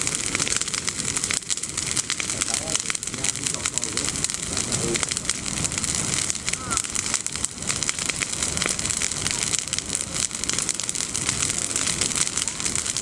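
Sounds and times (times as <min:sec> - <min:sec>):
bonfire crackling and popping: 0:00.0 - 0:13.0
fire hiss: 0:00.0 - 0:13.0.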